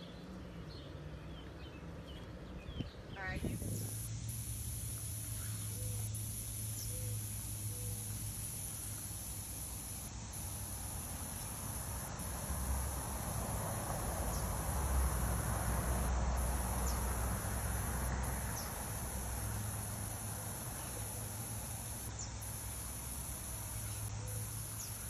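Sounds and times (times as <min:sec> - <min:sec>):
high-pitched insect buzzing: 0:03.2 - 0:25.0
lawn sprinkler spraying water: 0:03.2 - 0:25.0.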